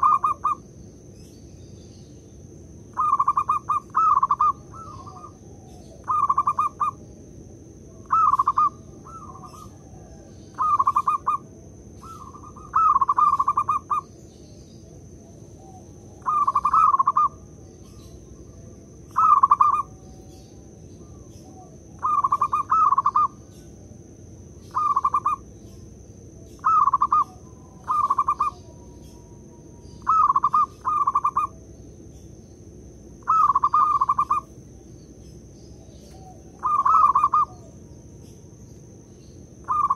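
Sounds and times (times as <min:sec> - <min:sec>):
dove cooing: 0:00.0 - 0:00.7, 0:02.9 - 0:07.1, 0:07.8 - 0:23.8, 0:24.6 - 0:31.8, 0:33.2 - 0:34.8, 0:35.7 - 0:38.0, 0:39.6 - 0:39.9.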